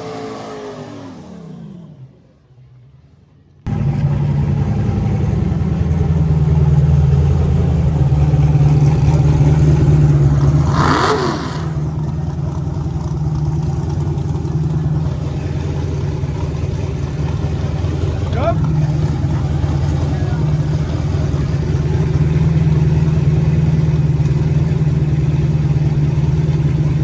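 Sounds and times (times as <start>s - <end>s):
car engine running: 3.7s - 27.0s.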